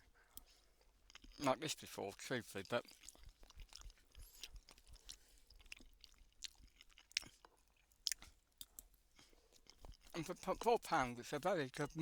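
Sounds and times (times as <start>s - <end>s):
person chewing food: 0.0s - 1.6s, 2.6s - 10.9s.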